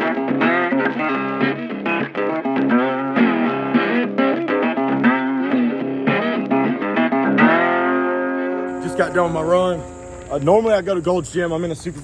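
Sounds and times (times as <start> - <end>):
electric guitar melody: 0.0 - 10.5.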